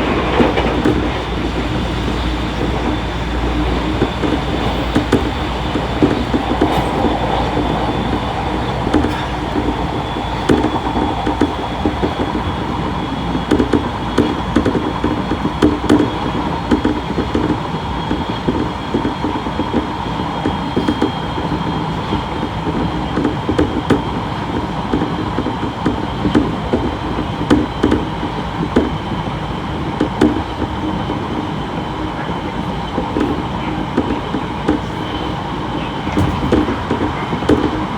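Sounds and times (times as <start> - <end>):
clacks over rail joints: 0.0 - 37.9
train wheels rolling on rail: 0.0 - 37.9.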